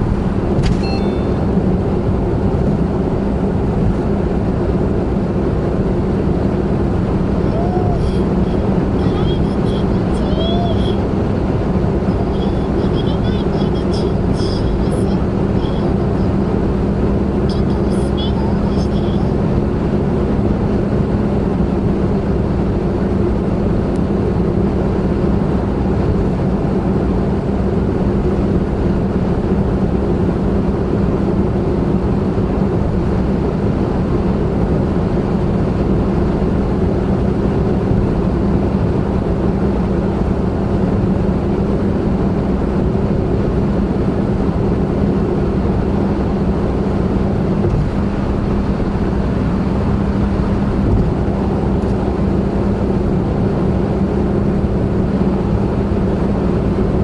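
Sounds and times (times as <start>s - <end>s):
tyre and road noise: 0.0s - 18.6s, 19.3s - 57.0s
car engine humming: 0.0s - 57.0s.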